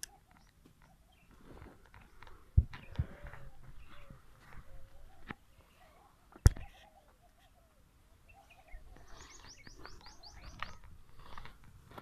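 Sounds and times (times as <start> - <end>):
birds chirping: 0.0 - 11.7.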